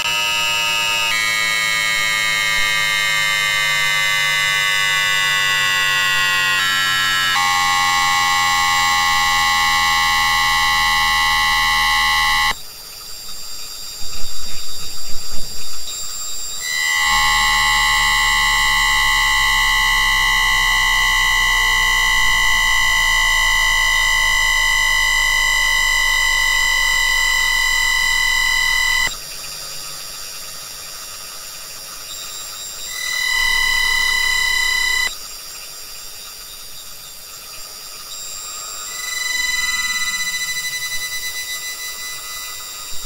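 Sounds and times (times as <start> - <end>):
electric train inverter whine: 0.0 - 43.0.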